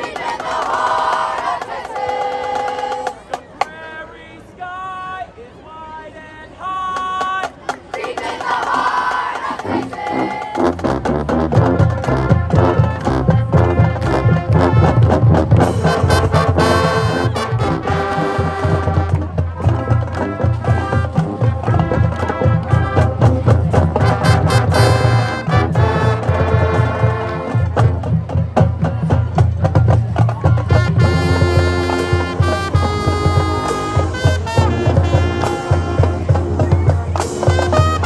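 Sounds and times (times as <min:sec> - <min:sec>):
marching band playing brass: 0:00.0 - 0:03.4, 0:07.9 - 0:38.0
drums keeping steady beat: 0:00.0 - 0:03.8, 0:06.9 - 0:38.0.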